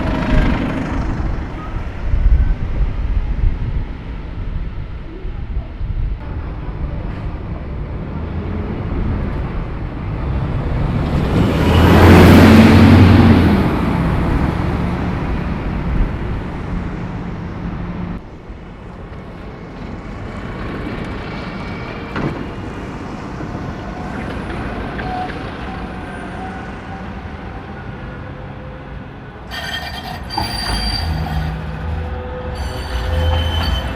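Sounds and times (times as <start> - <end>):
city street traffic: 0.0 - 33.9.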